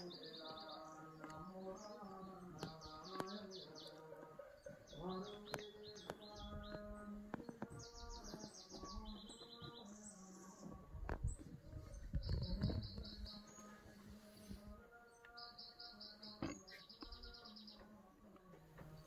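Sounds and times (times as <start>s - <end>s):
songbirds trilling: 0.0s - 19.0s.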